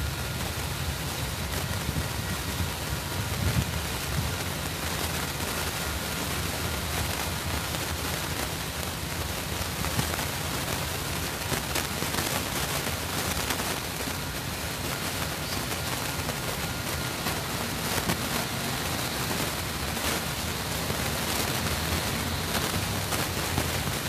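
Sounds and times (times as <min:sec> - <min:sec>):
even hiss: 0:00.0 - 0:24.0.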